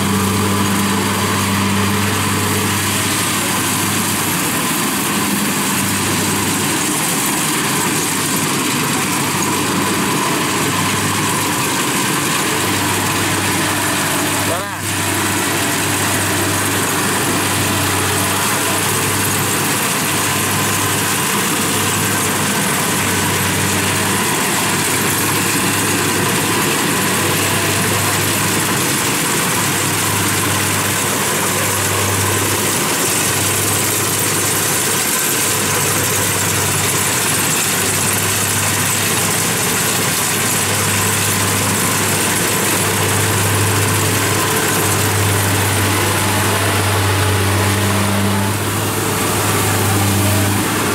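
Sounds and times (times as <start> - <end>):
combine harvester engine droning: 0.0 - 50.9.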